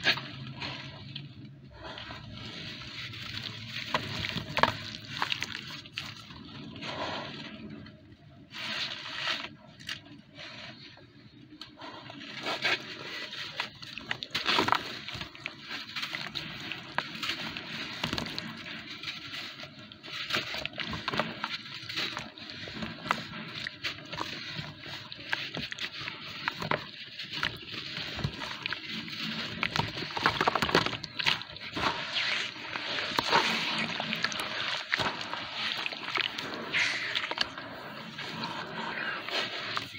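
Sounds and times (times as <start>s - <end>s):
wet sand crackling and sloshing: 0.0s - 11.4s, 12.2s - 39.9s.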